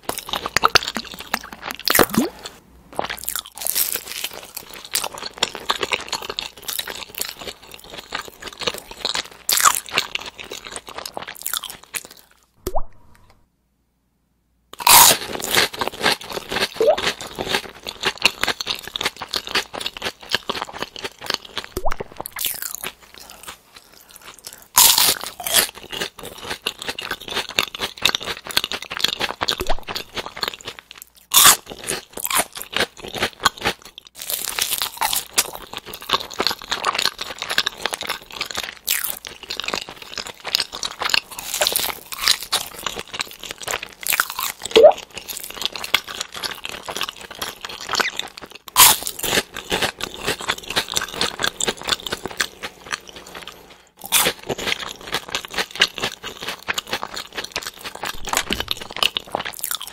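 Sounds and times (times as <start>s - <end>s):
crackly chewing: 0.0s - 13.4s, 14.8s - 59.9s.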